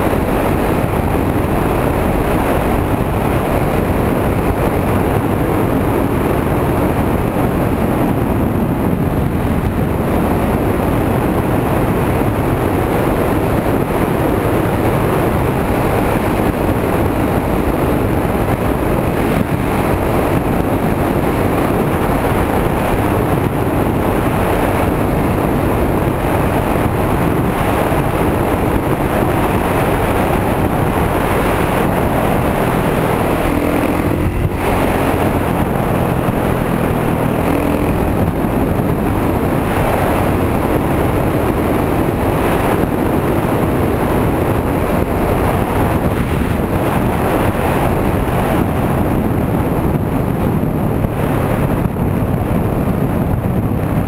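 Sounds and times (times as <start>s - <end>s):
dirt bike engine running: 0.0s - 54.0s
wind buffeting microphone: 0.0s - 54.0s.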